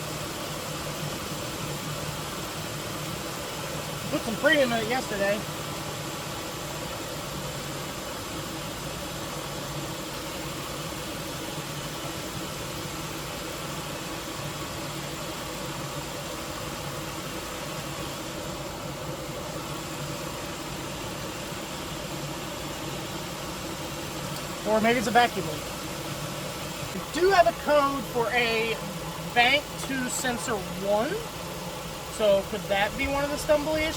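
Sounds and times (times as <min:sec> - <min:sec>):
car engine idling rough: 0:00.0 - 0:33.9.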